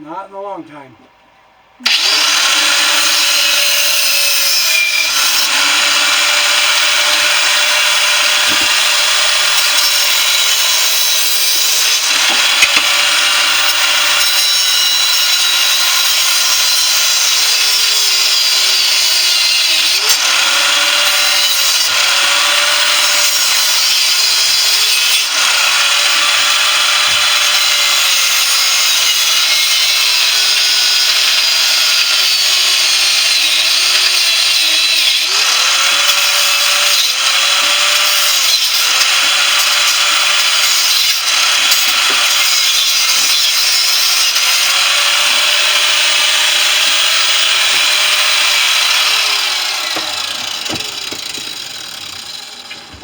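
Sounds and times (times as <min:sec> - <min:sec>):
power tool cutting metal: 0:01.8 - 0:53.0.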